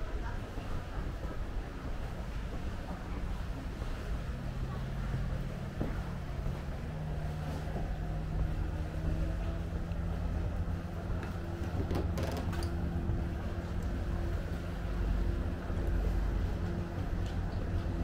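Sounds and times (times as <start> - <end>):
engine humming: 0.4 - 18.0.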